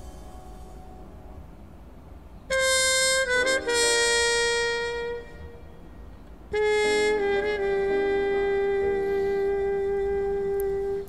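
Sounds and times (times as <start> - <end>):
melody of long held notes: 0.0 - 11.0.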